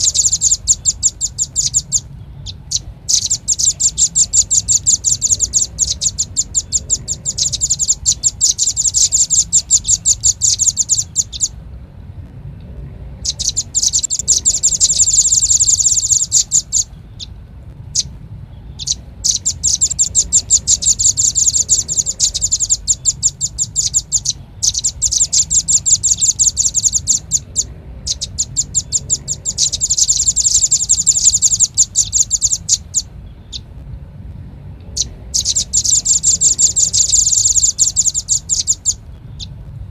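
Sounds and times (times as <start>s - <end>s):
bird calling with rapid high notes: 0.0s - 11.6s, 13.2s - 33.7s, 34.9s - 39.6s.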